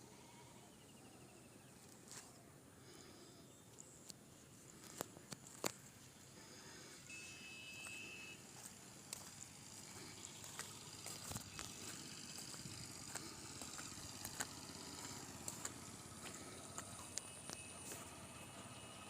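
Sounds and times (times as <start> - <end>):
faint outdoor ambience: 0.0 - 19.0.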